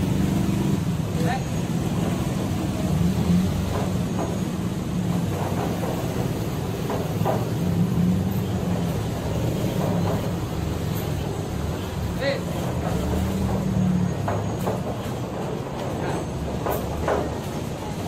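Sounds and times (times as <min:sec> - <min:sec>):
motorcycle engines droning: 0:00.0 - 0:18.0.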